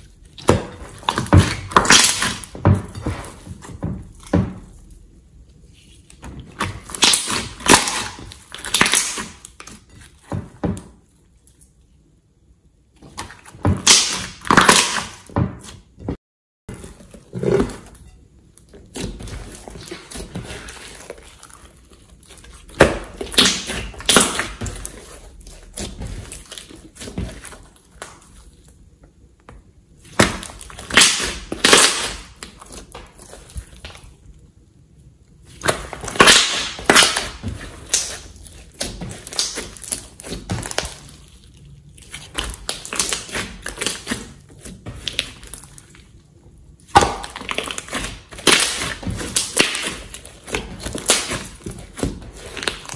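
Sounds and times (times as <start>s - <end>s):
slime squishing: 0.0s - 11.9s, 12.9s - 16.0s, 16.7s - 52.9s.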